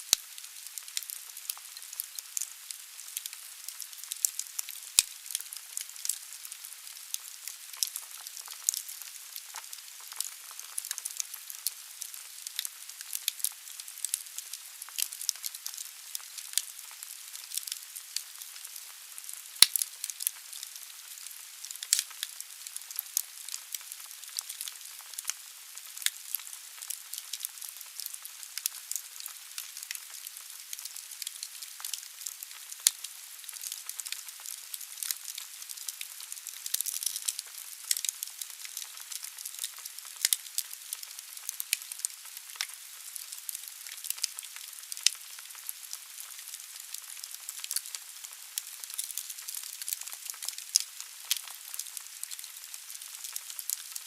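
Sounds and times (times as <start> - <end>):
wood fire crackling and popping: 0.0 - 6.5, 7.1 - 54.0.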